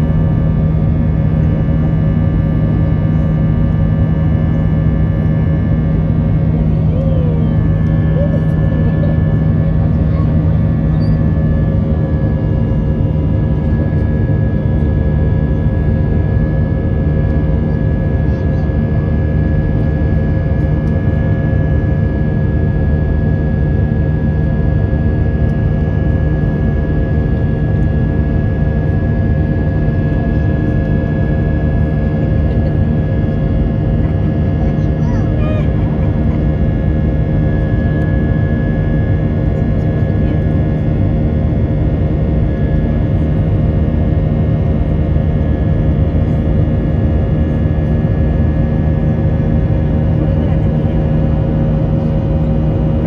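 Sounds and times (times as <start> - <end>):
jet engines rumbling in cabin: 0.0 - 53.0
steady humming tones: 0.0 - 53.0.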